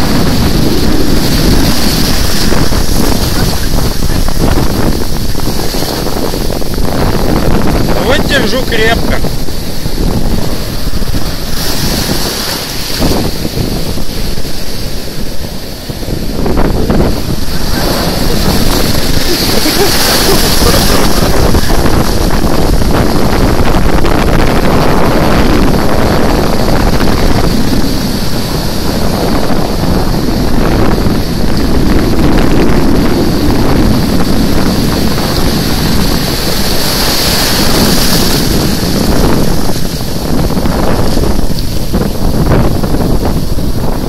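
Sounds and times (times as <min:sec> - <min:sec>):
ocean surf breaking: 0:00.0 - 0:44.0
wind buffeting microphone: 0:00.0 - 0:44.0.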